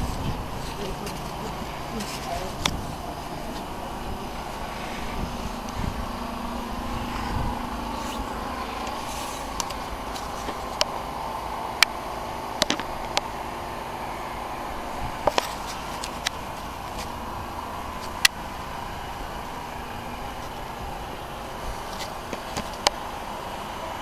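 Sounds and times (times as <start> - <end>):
low rumble: 0.0 - 22.3
faint hum: 0.0 - 24.0.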